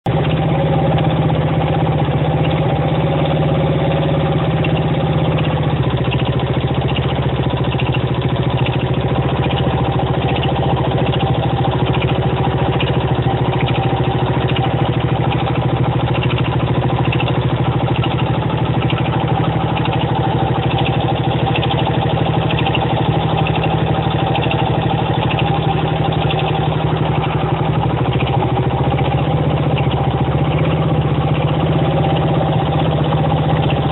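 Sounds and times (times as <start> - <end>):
engine knocking: 0.0 - 33.9
motorcycle engine idling: 0.1 - 33.9.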